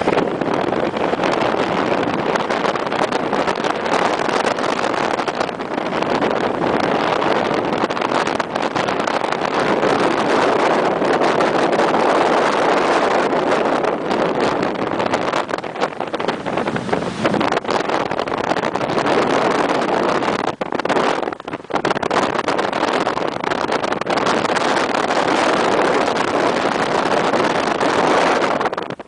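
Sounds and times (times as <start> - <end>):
car wind and road noise: 0.0 - 29.0
rushing turbulent river: 0.0 - 29.0.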